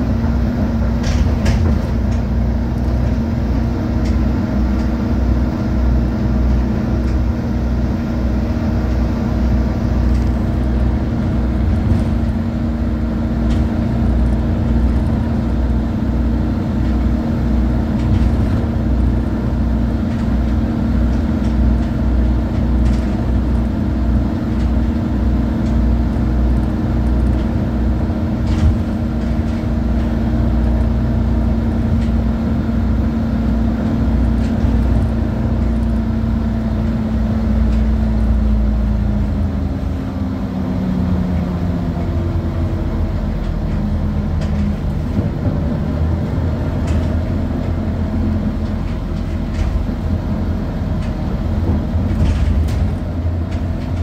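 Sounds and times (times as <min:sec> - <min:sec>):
bus engine running: 0:00.0 - 0:54.0
road rumble: 0:00.0 - 0:54.0.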